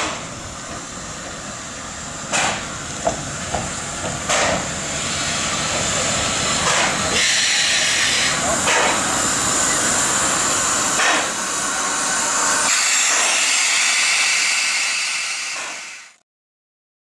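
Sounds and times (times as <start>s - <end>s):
steam locomotive hissing steam: 0.0s - 16.2s.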